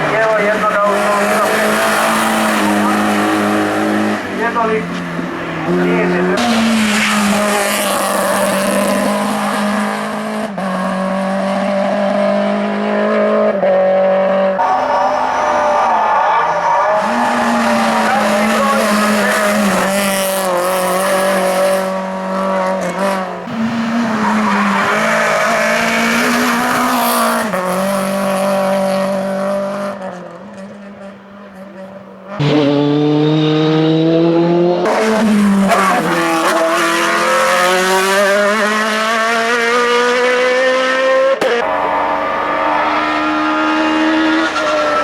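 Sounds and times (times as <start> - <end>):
race car engine at high revs: 0.0 - 45.0.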